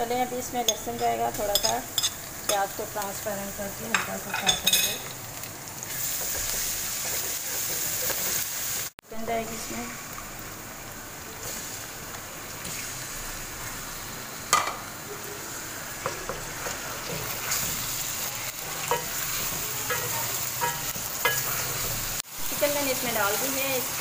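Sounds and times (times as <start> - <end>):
chicken sizzling in hot oil: 0.1 - 24.0.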